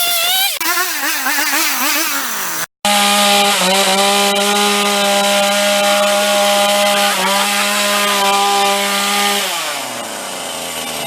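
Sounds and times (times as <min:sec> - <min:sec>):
chainsaw engine running: 0:00.0 - 0:11.0.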